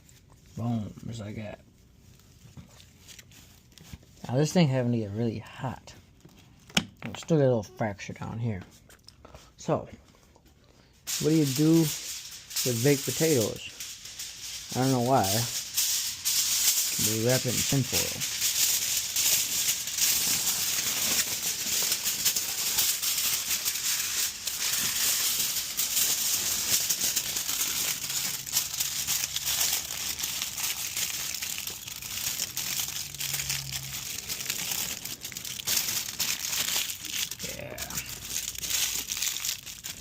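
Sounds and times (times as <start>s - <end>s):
aluminium foil crinkling: 0.0s - 4.5s, 10.1s - 40.0s.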